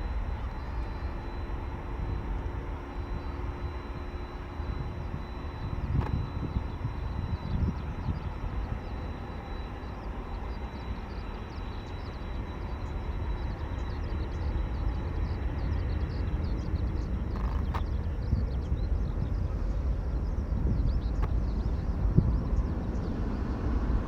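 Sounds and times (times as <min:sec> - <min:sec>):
jet engines deep rumble: 0:00.0 - 0:24.0
thin high engine whine: 0:00.0 - 0:24.0.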